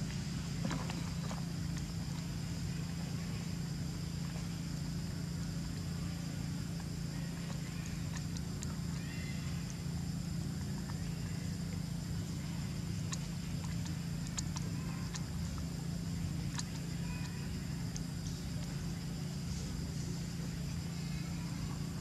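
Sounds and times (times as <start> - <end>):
insect drone: 0.0 - 22.0
steady low hum: 0.0 - 22.0.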